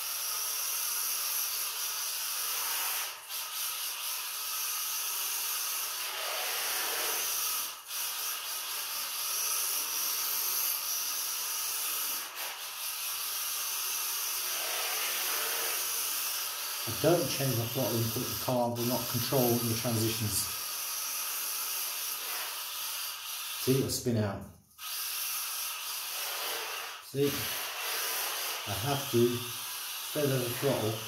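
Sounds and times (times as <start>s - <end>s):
small electric motor whirring: 0.0s - 24.0s, 24.7s - 31.0s.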